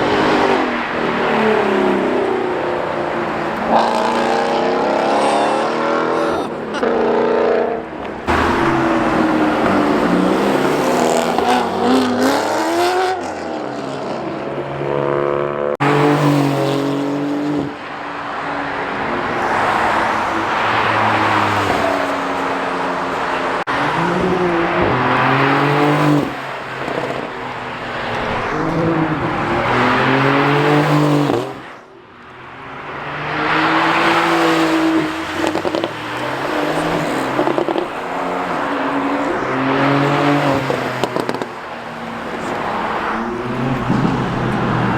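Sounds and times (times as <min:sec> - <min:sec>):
cars revving past: 0:00.0 - 0:44.9.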